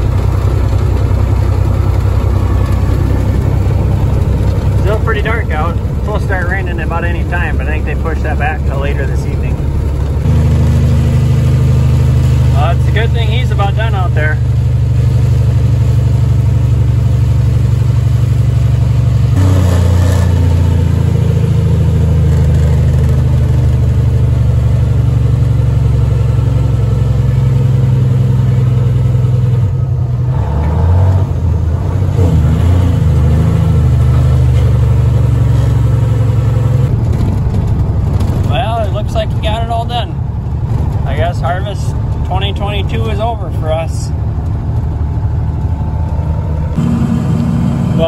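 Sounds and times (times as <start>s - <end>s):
truck engine droning: 0.0s - 48.0s.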